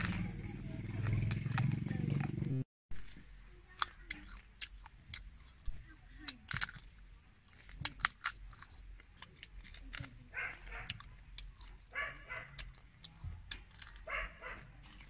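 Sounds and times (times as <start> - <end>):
crunching of chewing insects: 0.0 - 15.0.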